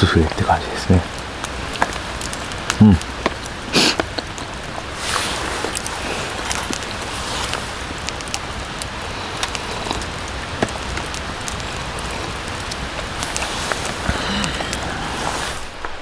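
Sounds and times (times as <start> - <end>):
rain on tent fabric: 0.0 - 16.0.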